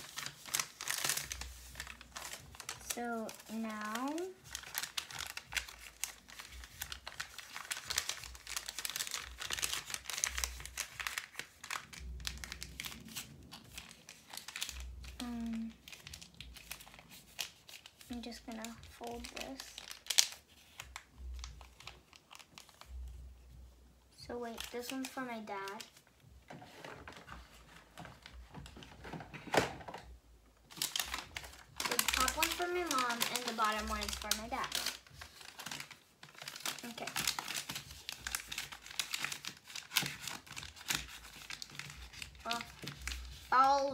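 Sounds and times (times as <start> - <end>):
paper and plastic crinkling: 0.0 - 23.2, 24.2 - 43.9.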